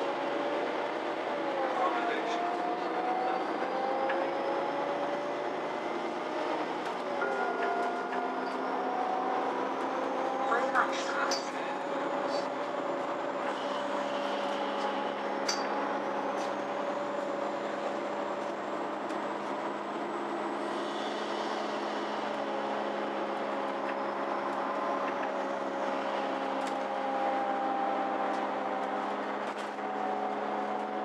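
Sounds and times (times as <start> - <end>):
bus engine drone and whine: 0.0 - 31.0.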